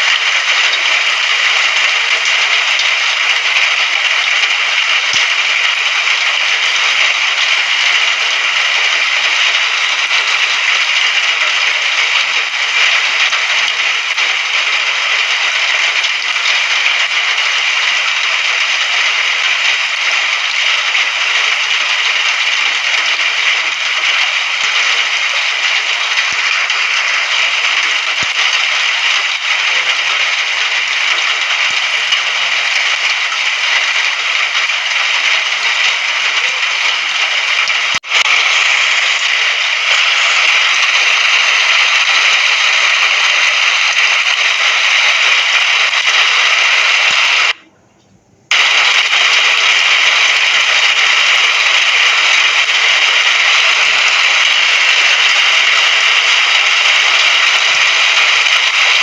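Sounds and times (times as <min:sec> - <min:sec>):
rain patter: 0:00.0 - 0:47.7, 0:48.5 - 0:59.0.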